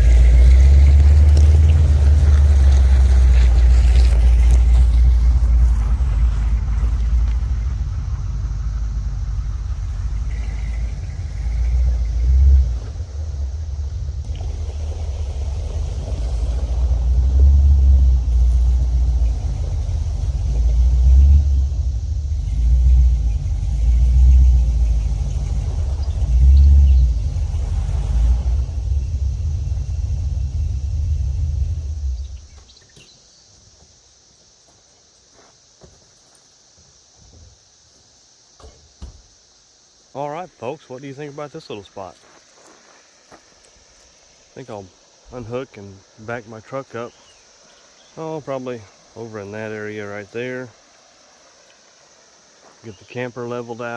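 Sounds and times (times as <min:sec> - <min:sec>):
pickup truck driving over gravel: 0:00.0 - 0:32.8, 0:41.1 - 0:53.9.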